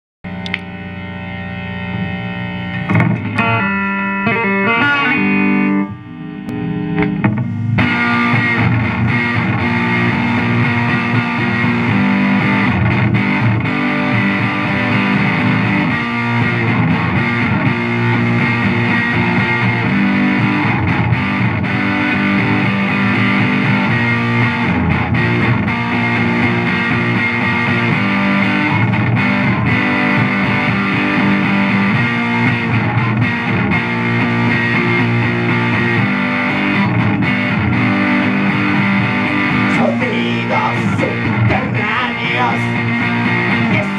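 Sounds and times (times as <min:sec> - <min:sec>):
distorted electric guitar riff: 0:00.3 - 0:43.9.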